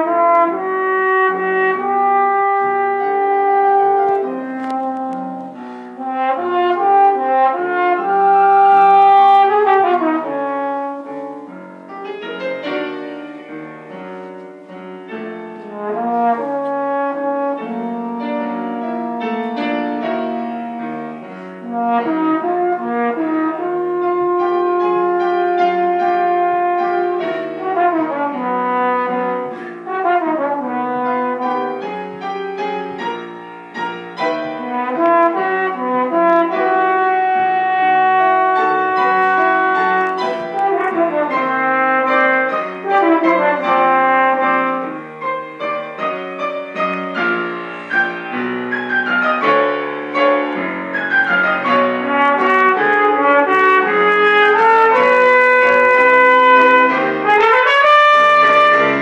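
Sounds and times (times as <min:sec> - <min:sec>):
trombone playing: 0:00.0 - 0:12.0, 0:15.6 - 0:59.0
piano accompaniment: 0:00.0 - 0:59.0.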